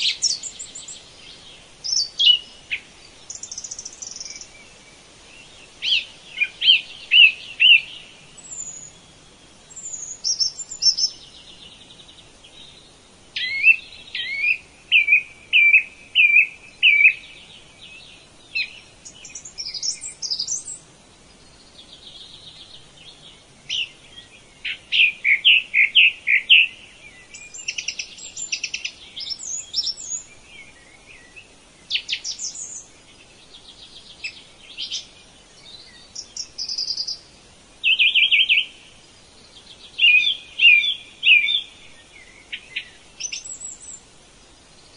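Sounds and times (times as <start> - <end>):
birds chirping song phrases: 0.0 - 44.9.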